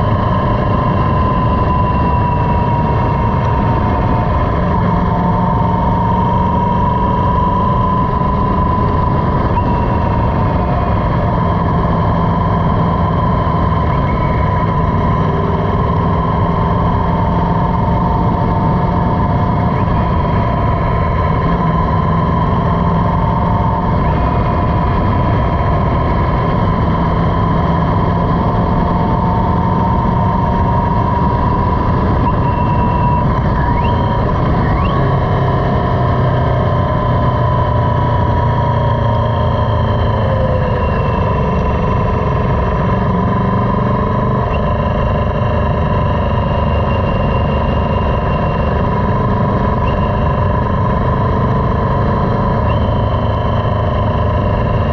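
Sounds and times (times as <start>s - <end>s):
motorcycle engine running: 0.0s - 54.9s
wind noise on microphone: 0.0s - 54.9s.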